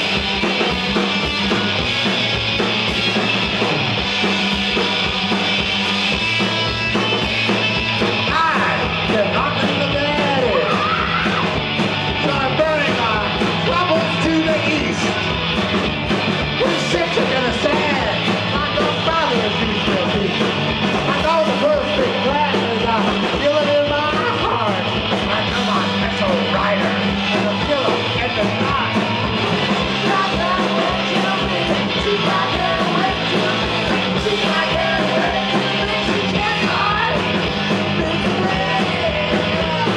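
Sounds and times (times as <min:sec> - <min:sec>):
bass guitar: 0:00.0 - 0:39.9
drums: 0:00.0 - 0:39.9
electric guitars: 0:00.0 - 0:39.9
live rock band playing: 0:00.0 - 0:39.9.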